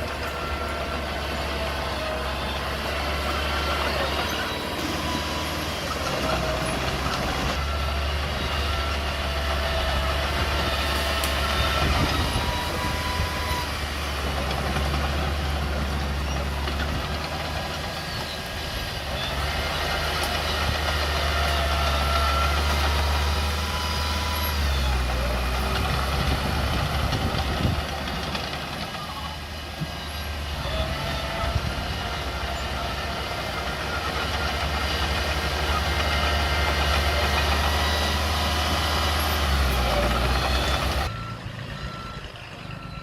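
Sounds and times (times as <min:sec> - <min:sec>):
bulldozer diesel engine rumbling: 0:00.0 - 0:43.0.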